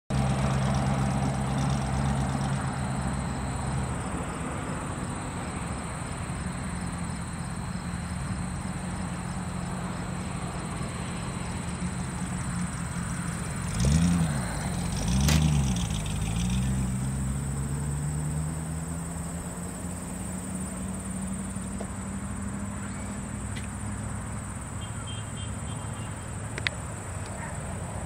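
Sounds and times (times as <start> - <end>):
low engine-like hum: 0.1 - 28.0
high insect trill: 0.2 - 28.0.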